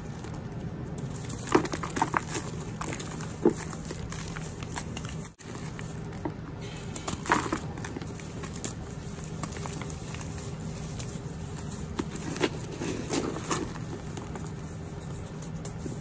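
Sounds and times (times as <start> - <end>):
hands crushing dry chalk: 0.0 - 16.0.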